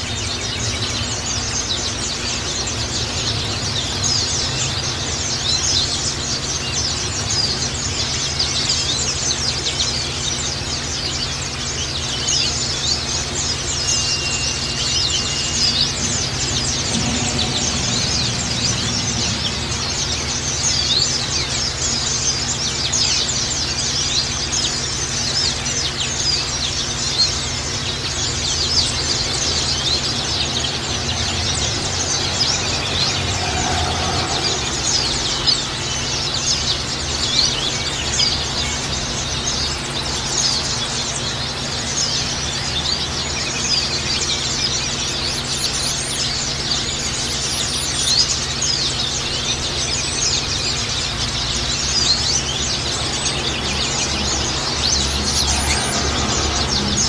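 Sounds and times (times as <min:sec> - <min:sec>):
flock of small birds chirping: 0:00.0 - 0:57.0.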